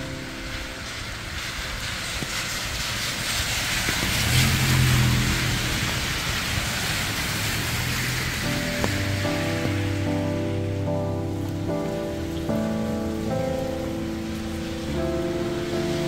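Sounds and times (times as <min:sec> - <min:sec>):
rain hiss: 0:00.0 - 0:16.0
vehicle passing: 0:00.0 - 0:16.0.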